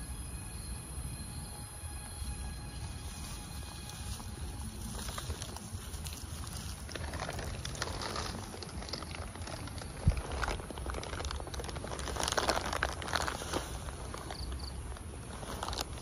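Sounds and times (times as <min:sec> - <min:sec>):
rustling and crunching in grass: 0:02.0 - 0:16.0.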